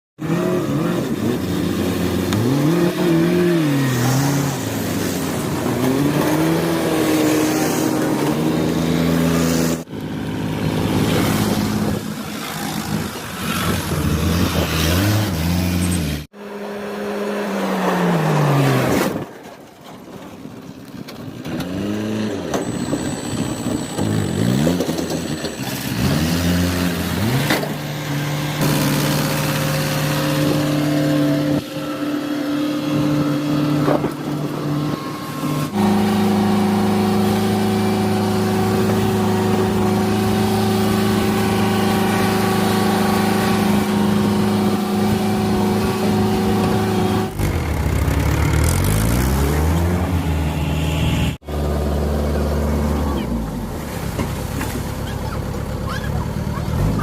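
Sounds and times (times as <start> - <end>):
vehicle engine revving: 0.2 - 19.2, 21.4 - 57.0.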